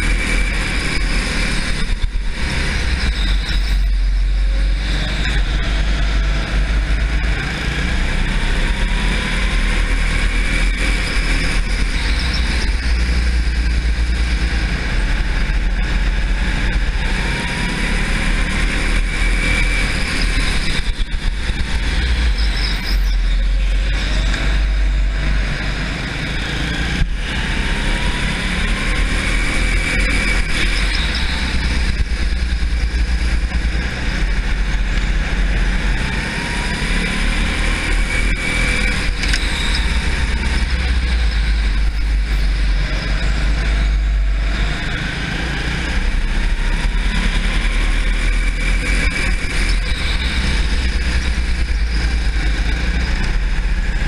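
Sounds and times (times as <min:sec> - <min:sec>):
kart motor running hard: 0:00.0 - 0:54.0.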